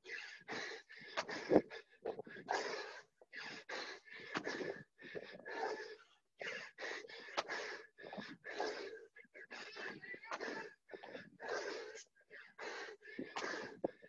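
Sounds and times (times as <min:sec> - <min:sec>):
heavy rapid breathing: 0:00.0 - 0:14.0.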